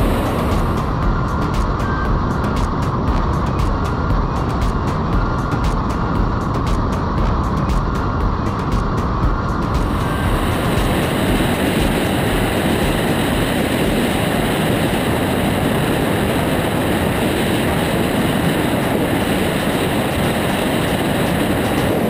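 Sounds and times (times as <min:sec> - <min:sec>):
plane engine and propeller: 0:00.0 - 0:22.0
wind rushing over camera: 0:00.0 - 0:22.0.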